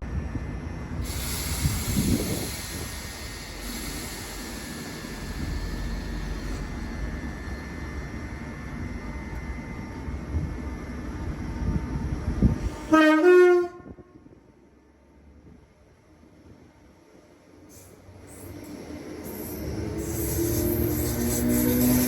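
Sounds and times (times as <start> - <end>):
train rumbling with hiss: 0.1 - 22.0.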